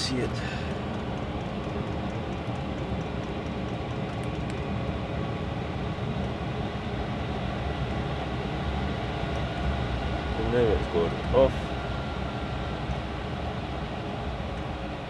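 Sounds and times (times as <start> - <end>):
air heater fans and burner rushing: 0.0 - 15.0.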